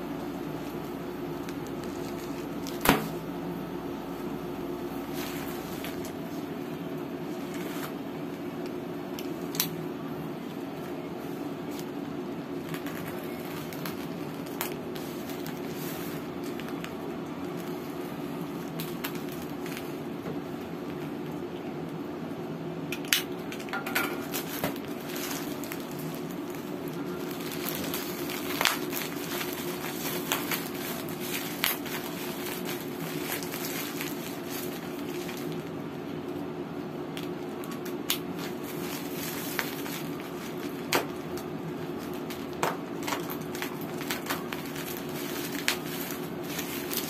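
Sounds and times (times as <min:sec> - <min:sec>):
steady low hum: 0:00.0 - 0:47.0
plastic mailer being handled: 0:00.6 - 0:03.2, 0:04.9 - 0:09.7, 0:10.4 - 0:21.2, 0:24.1 - 0:35.8, 0:37.2 - 0:47.0.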